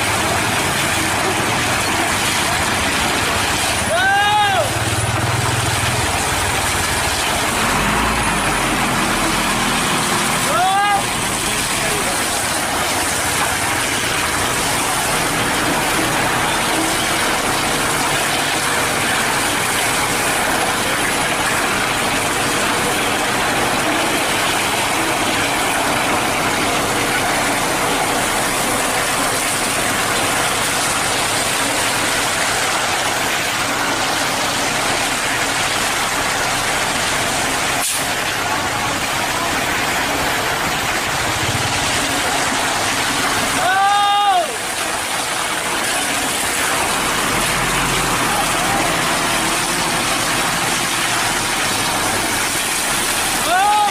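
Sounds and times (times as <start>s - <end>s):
cement mixer truck running: 0.0s - 53.9s.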